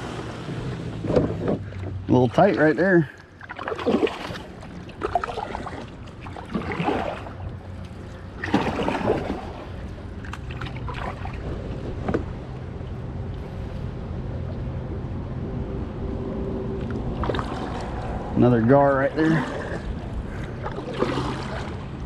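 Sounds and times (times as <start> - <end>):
kayak paddle splashing: 0.0 - 13.7, 16.8 - 22.0.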